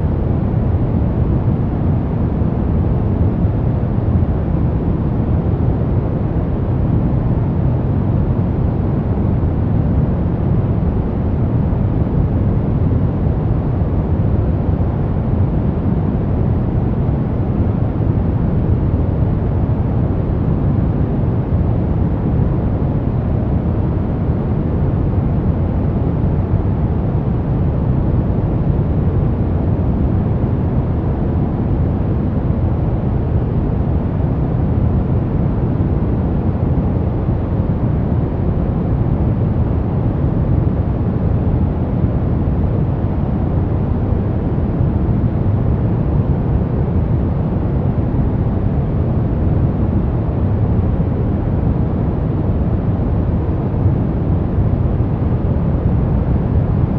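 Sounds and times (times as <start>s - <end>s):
brown noise rumbling hiss: 0.0s - 56.9s.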